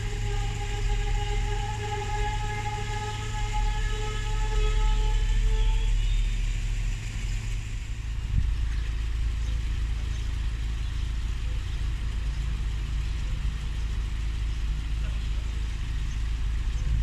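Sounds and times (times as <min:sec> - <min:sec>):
diesel rail vehicle idling: 0:00.0 - 0:17.0.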